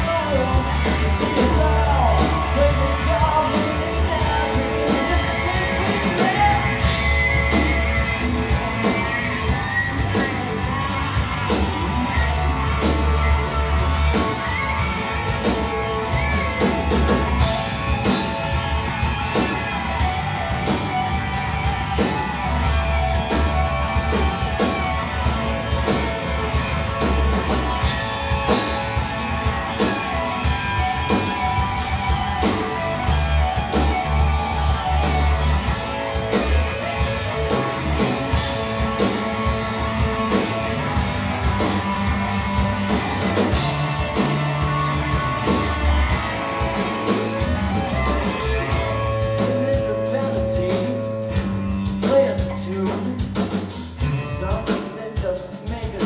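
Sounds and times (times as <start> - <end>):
drum beats: 0.0 - 56.0
electric guitar lead: 0.0 - 56.0
live rock band: 0.0 - 56.0.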